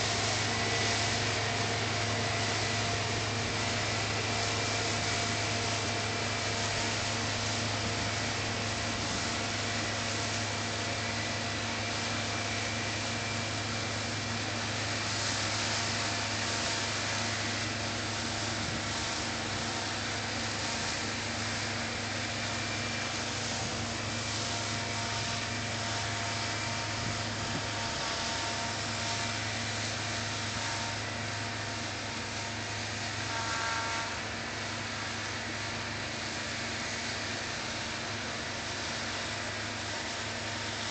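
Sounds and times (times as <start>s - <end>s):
combine harvester mechanical hum: 0.0s - 40.9s.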